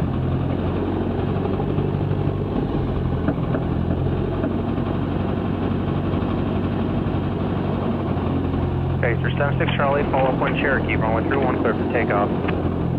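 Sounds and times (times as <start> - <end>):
aircraft engine drone: 0.0 - 12.9.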